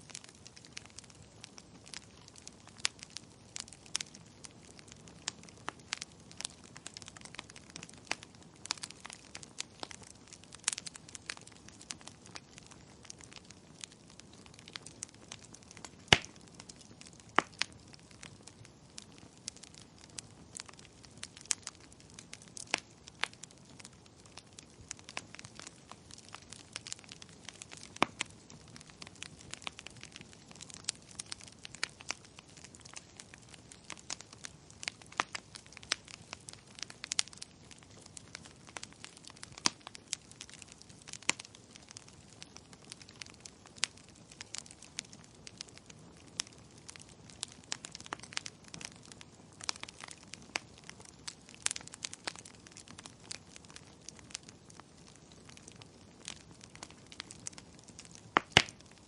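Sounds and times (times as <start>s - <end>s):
low steady hiss: 0.0s - 59.0s
wood fire pops and crackles: 0.0s - 59.0s.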